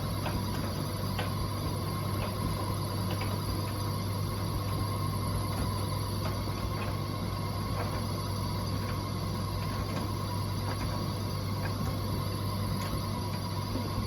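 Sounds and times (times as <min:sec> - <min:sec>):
tumble dryer humming: 0:00.0 - 0:14.0.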